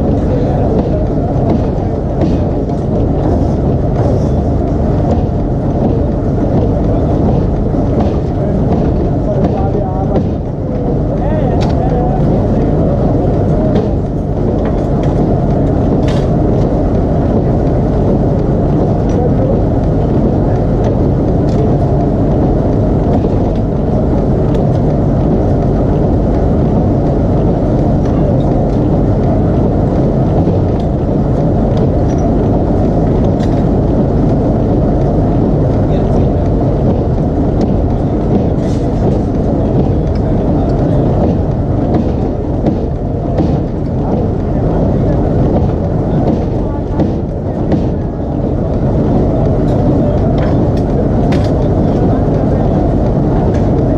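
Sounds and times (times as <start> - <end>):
loud rumble of forge machinery: 0.0 - 53.9.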